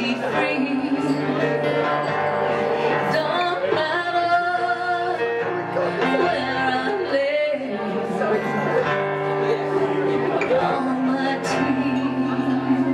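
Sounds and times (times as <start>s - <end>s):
person singing: 0.0s - 9.6s, 10.3s - 12.9s
strummed acoustic guitars: 0.0s - 12.9s.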